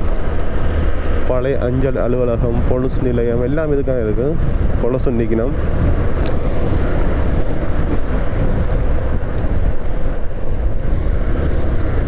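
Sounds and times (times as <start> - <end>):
motorcycle road noise: 0.0 - 12.0
wind buffeting: 0.0 - 12.0.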